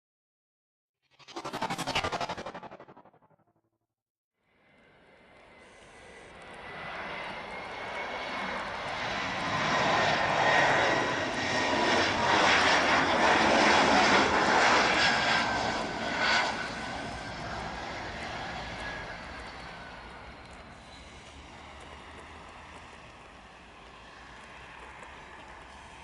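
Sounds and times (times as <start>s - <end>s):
jet airliner engines passing: 1.1s - 3.4s, 4.6s - 26.0s.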